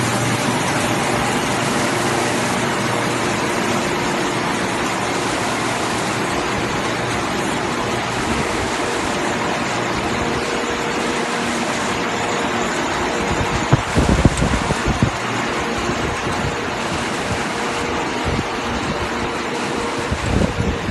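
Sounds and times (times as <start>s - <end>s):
faint motor hum: 0.0s - 20.9s
water rushing through machine: 0.0s - 20.9s.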